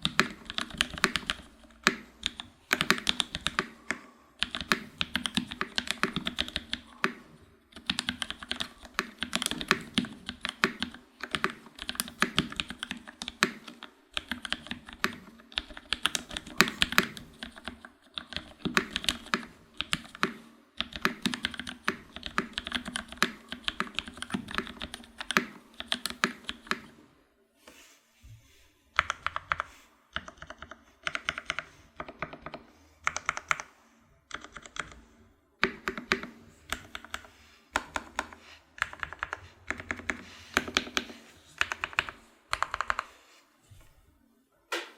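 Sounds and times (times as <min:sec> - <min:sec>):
mechanical keyboard typing: 0:00.0 - 0:26.9, 0:29.0 - 0:33.7, 0:34.3 - 0:35.0, 0:35.6 - 0:43.1.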